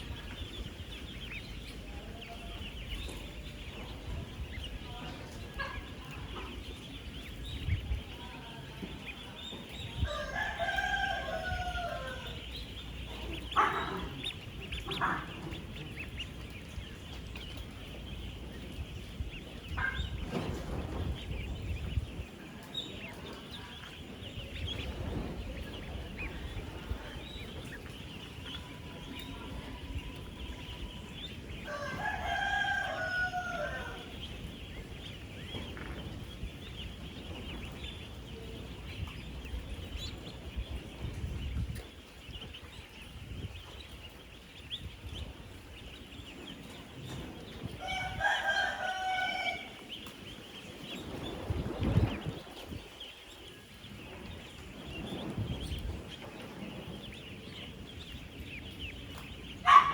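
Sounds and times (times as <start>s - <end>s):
ducklings peeping chorus: 0.0s - 59.9s.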